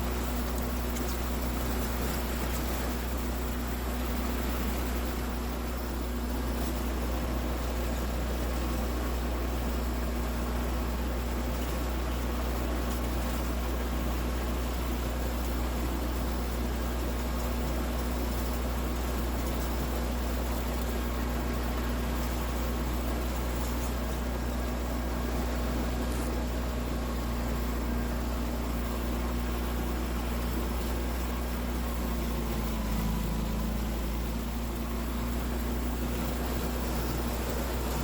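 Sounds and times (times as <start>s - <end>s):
machine hum with whirring hiss: 0.0s - 38.0s.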